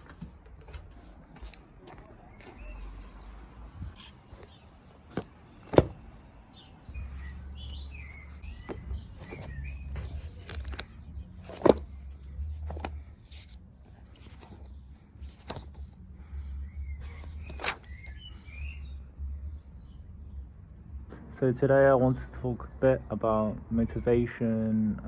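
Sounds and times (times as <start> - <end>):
birds chirping: 0.7 - 21.1.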